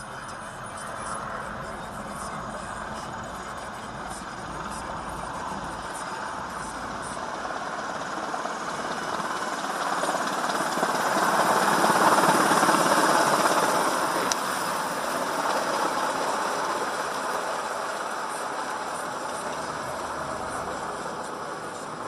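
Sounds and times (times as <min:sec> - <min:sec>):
helicopter rotor and engine: 0:00.0 - 0:22.0.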